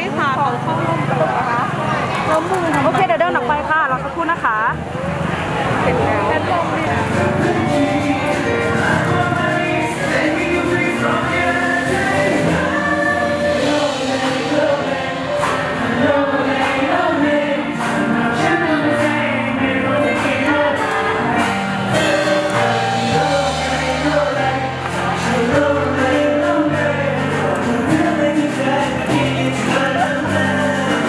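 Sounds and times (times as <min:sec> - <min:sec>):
pop backing track with bass: 0:00.0 - 0:31.0
voices singing together: 0:06.0 - 0:31.0.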